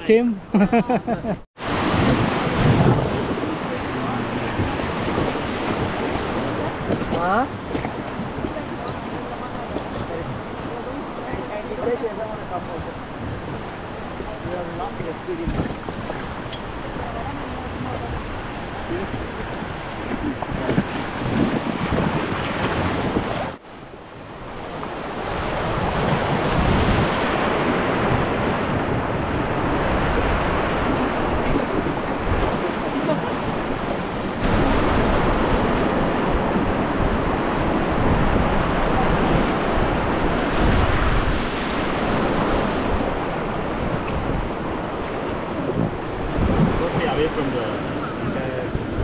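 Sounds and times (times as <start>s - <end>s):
wind buffeting microphone: 1.6s - 49.0s.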